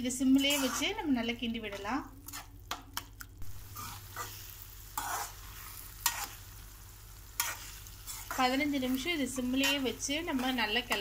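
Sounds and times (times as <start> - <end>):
oil sizzling: 0.0 - 11.0
spoon scraping a pan: 0.2 - 6.6, 7.2 - 11.0.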